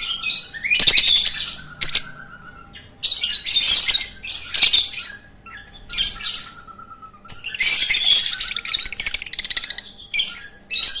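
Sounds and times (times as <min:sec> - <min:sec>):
lovebirds squawking: 0:00.0 - 0:11.0.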